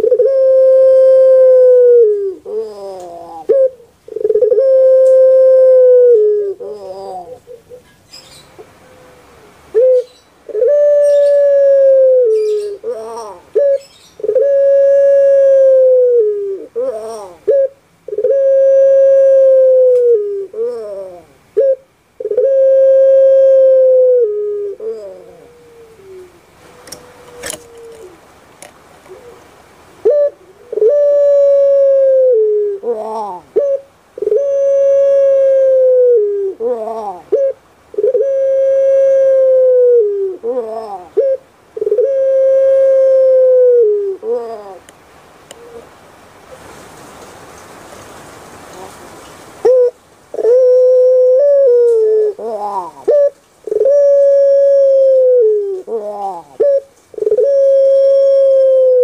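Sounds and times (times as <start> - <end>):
dove cooing: 0.0 - 28.3, 29.0 - 44.9, 45.5 - 46.0, 49.6 - 59.0.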